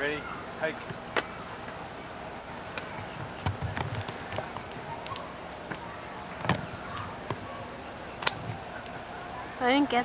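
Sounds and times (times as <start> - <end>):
faint background hum: 0.0 - 10.0.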